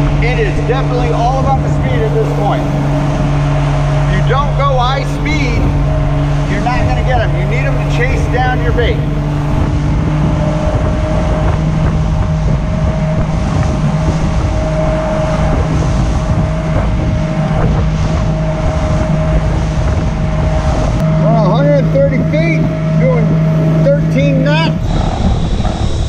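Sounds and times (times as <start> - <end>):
boat wake rushing: 0.0 - 26.0
motorboat engine humming: 0.0 - 26.0
wind buffeting microphone: 0.0 - 26.0.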